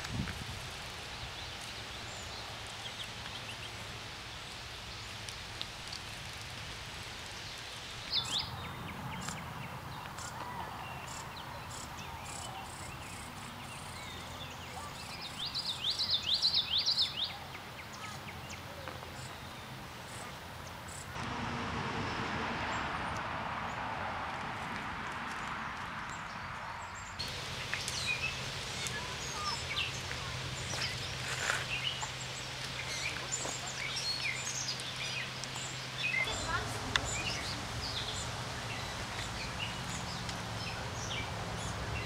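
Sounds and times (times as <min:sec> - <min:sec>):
outdoor background noise: 0:00.0 - 0:42.0
songbirds chirping: 0:00.2 - 0:21.2, 0:22.0 - 0:42.0.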